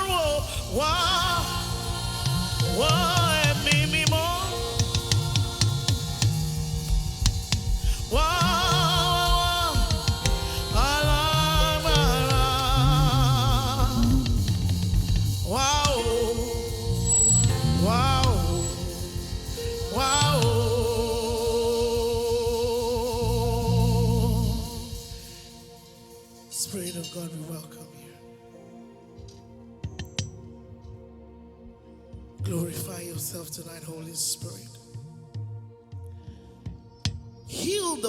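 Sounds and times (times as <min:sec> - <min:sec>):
gospel worship band music: 0:00.0 - 0:38.0.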